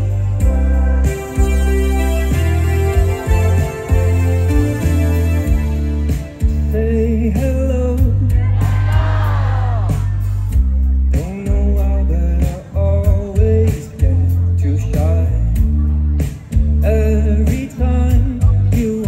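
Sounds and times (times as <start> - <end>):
song with singing voice: 0.0 - 19.0.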